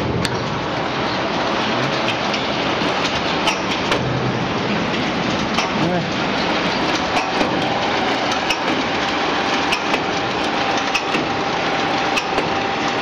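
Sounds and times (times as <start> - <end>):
machinery whirring with whine: 0.0 - 13.0.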